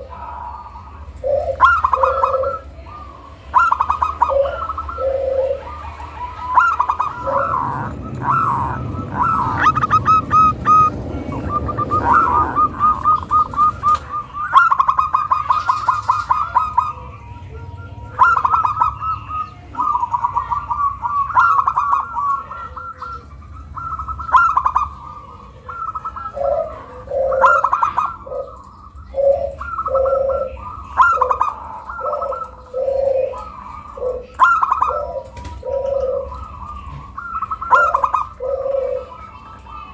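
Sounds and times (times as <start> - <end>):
high trilled dove cooing: 0.0 - 39.9
lower dove coo: 0.0 - 39.9.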